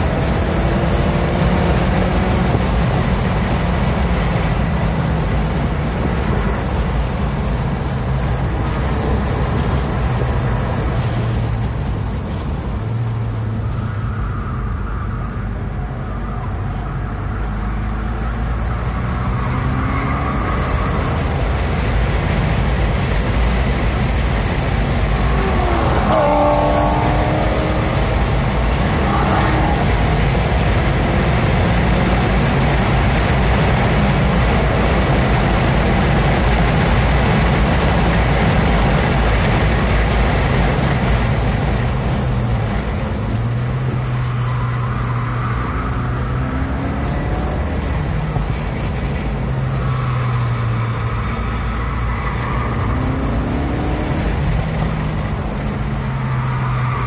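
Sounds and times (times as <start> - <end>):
car engine under throttle: 0.0 - 57.0
wind and road noise: 0.0 - 57.0.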